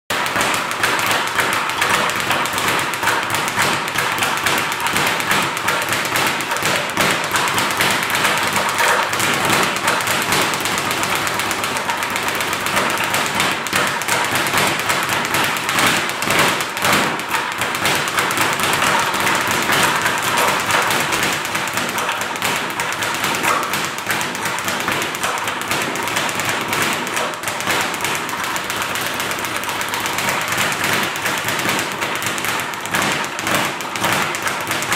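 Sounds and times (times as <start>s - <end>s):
speed bag rattling thuds: 0.1s - 34.9s.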